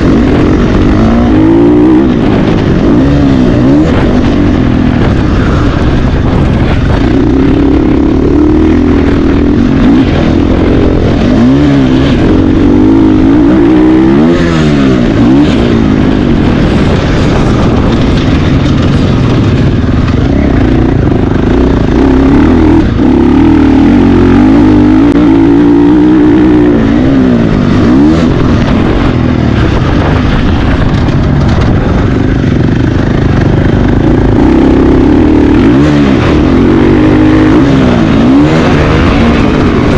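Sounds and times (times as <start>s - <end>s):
low rumble: 0.0s - 39.9s
motocross motorcycle engine revving: 0.0s - 39.9s.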